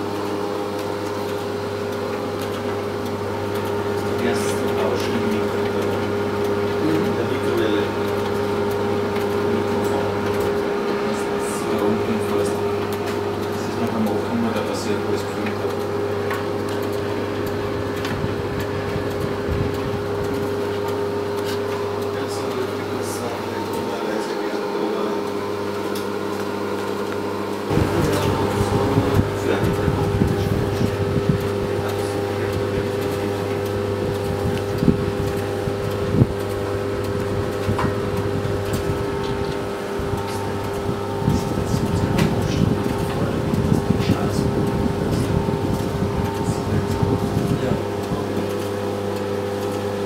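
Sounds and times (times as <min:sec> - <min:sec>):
constant whine: 0:00.0 - 0:50.0
washer-dryer humming: 0:00.0 - 0:50.0.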